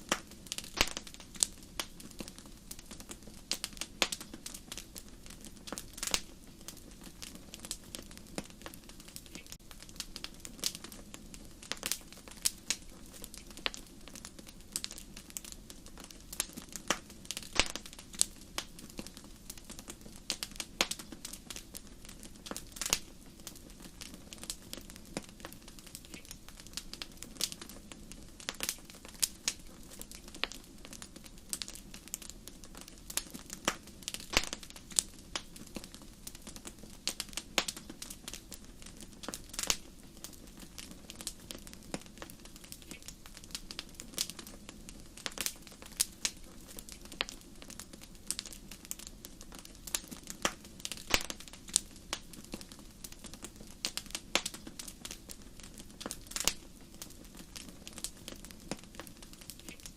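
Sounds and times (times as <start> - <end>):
low rush of flames: 0.0 - 59.9
wood fire crackling and popping: 0.0 - 59.9.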